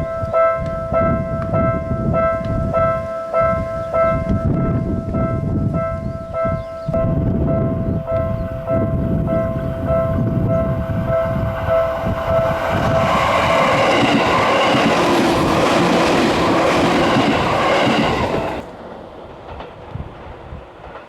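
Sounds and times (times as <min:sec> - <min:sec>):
level crossing warning bell: 0:00.0 - 0:18.7
electric train passing: 0:00.0 - 0:21.0.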